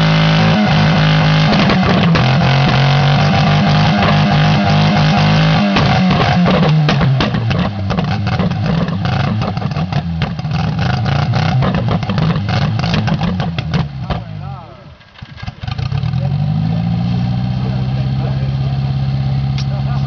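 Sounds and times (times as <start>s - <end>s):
engine bangs and cracks: 0.0s - 16.8s
car engine over-revving: 0.0s - 20.0s.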